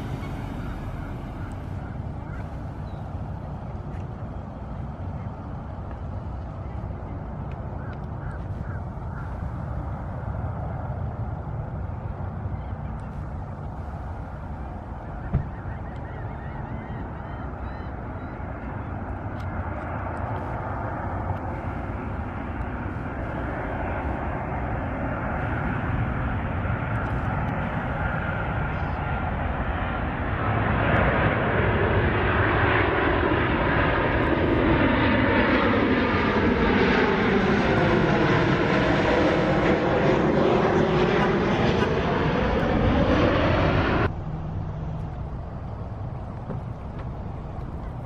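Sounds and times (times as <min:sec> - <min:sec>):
jet airliner passing overhead: 0:00.0 - 0:48.0.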